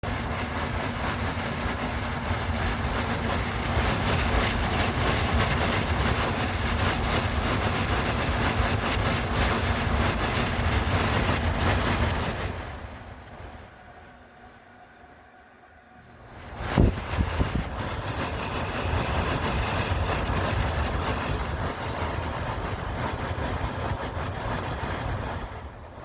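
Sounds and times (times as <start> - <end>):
air conditioner rough mechanical noise: 0.0 - 26.0.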